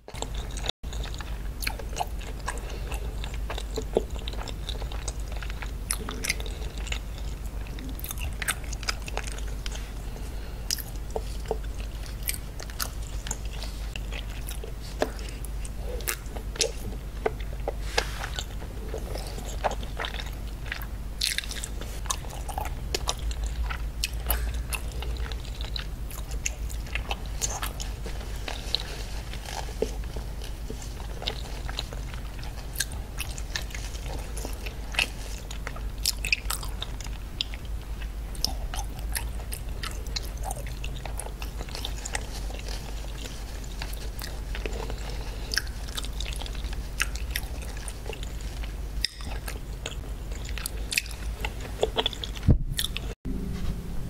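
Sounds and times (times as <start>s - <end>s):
low steady hum: 0.0s - 54.0s
chewing and biting seafood: 0.1s - 53.2s.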